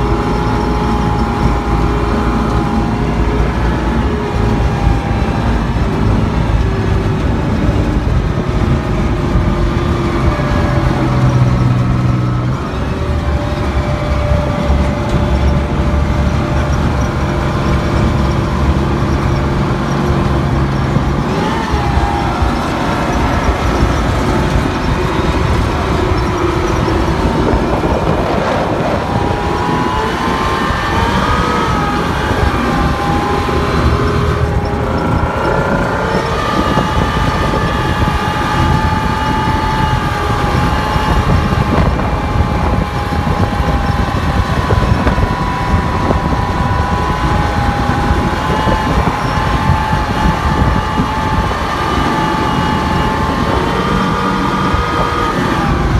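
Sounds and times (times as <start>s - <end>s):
armoured vehicle engine running: 0.0s - 55.9s
whining tone: 0.0s - 55.9s.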